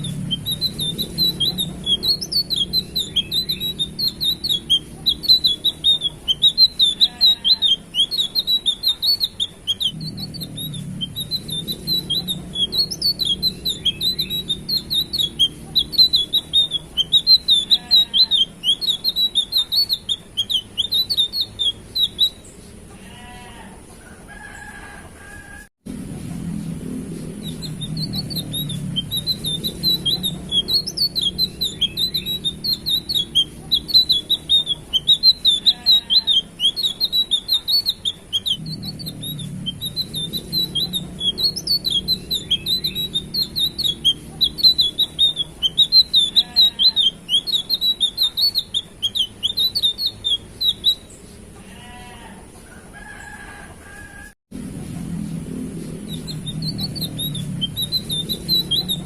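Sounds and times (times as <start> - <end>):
lower trilled bird calls: 0.0 - 22.6, 27.4 - 52.2, 56.0 - 59.0
flycatcher twittering song: 0.0 - 23.5, 26.8 - 52.2, 55.4 - 59.0.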